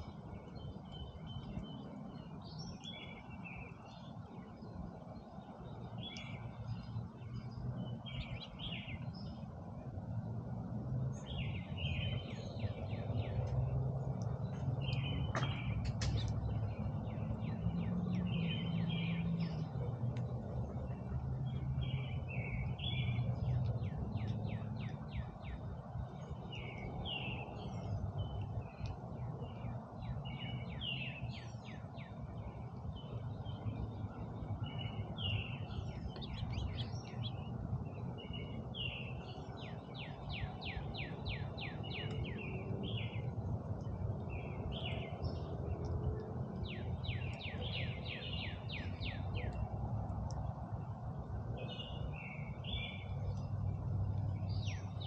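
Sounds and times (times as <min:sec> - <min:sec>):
low background rumble: 0:00.0 - 0:55.0
songbirds chirping and trilling: 0:00.0 - 0:55.0.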